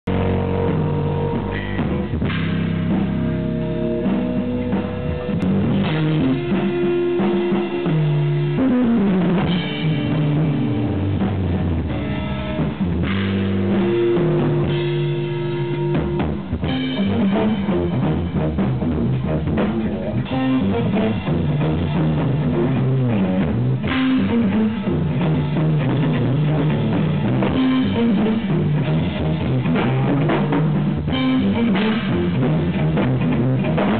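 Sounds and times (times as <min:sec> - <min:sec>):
jazz-rock trio playing live: 0:00.1 - 0:33.9.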